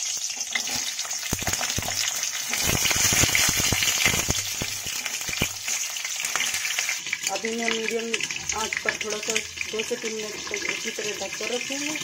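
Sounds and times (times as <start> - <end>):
peppers sizzling in oil: 0.0 - 12.0.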